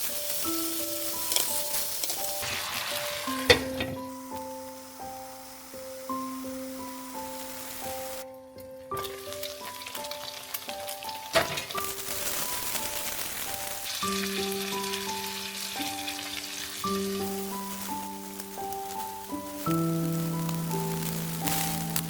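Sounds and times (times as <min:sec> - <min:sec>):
dumplings sizzling in oil: 0:00.0 - 0:08.3, 0:08.9 - 0:22.0.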